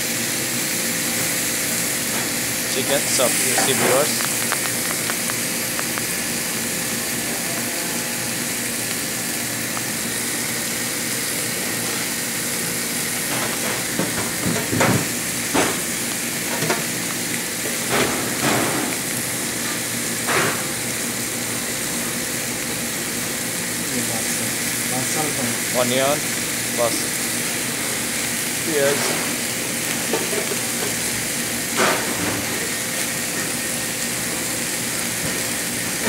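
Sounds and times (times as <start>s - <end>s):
food sizzling in a frying pan: 0.0s - 36.0s.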